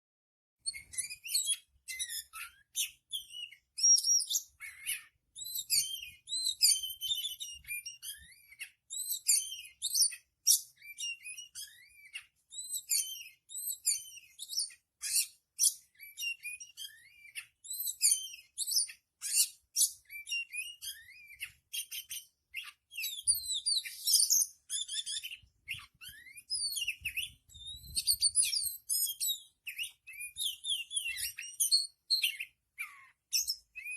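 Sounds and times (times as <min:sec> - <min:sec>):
bird singing varied song: 0:00.6 - 0:33.9.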